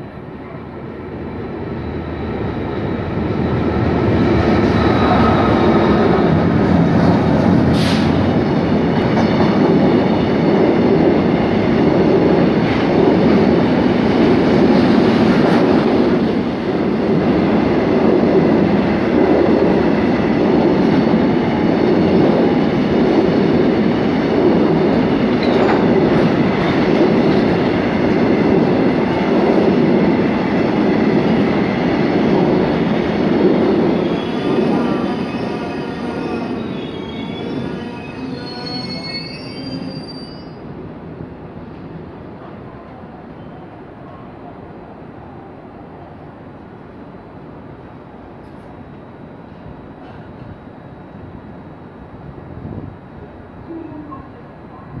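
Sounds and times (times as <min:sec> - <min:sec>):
freight train wheels rumbling: 0:00.0 - 0:44.2, 0:47.2 - 0:55.0.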